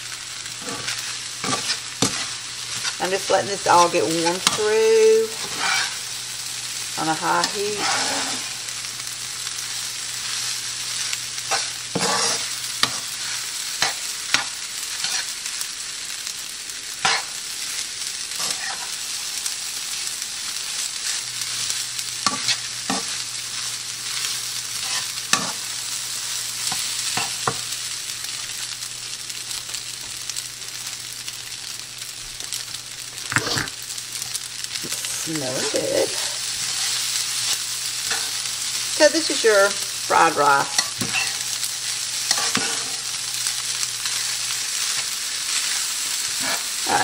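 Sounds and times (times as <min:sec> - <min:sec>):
rice sizzling in a pan: 0:00.0 - 0:47.0.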